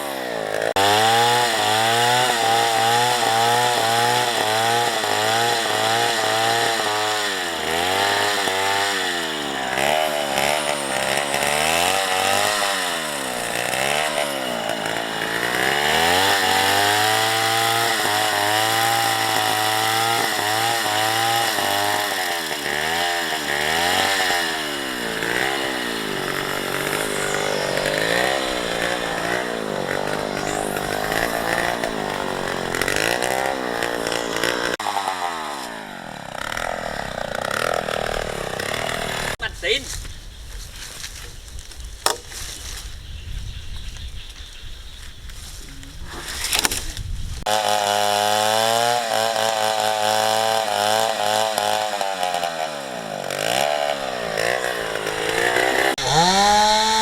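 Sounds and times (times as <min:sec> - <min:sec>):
chainsaw cutting wood: 0:00.0 - 0:40.0, 0:40.9 - 0:42.8, 0:46.0 - 0:57.0.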